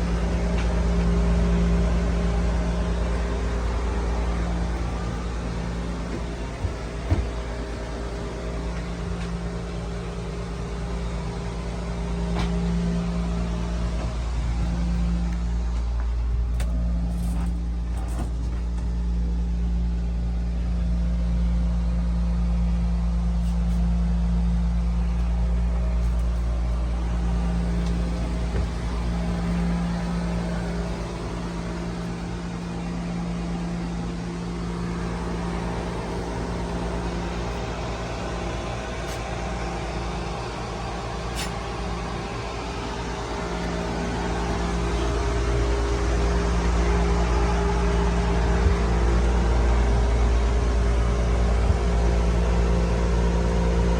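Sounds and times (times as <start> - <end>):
motor humming: 0.0 - 21.6, 22.2 - 53.9.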